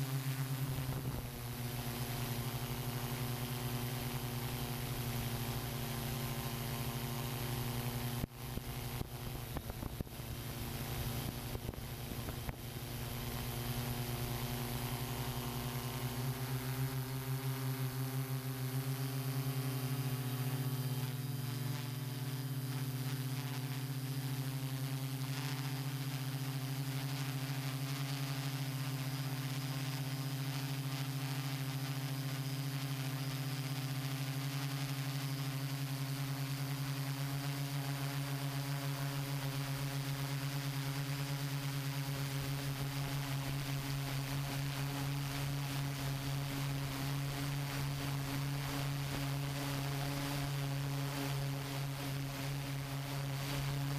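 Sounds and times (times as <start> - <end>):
drone motors humming: 0.0 - 53.9.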